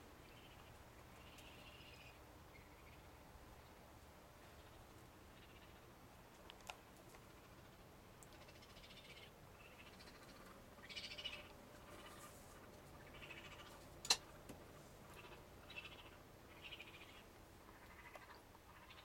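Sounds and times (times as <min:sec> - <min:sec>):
raccoon chittering: 0:00.2 - 0:19.0.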